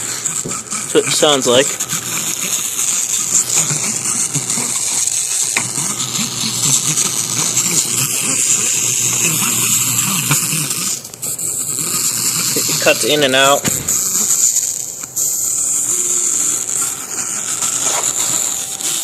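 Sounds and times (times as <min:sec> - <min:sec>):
speaker hiss: 0:00.0 - 0:19.0.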